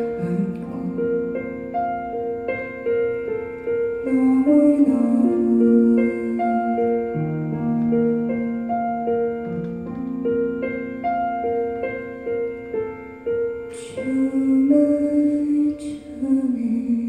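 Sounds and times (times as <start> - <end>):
keyboard playing piano chords: 0.0 - 17.0.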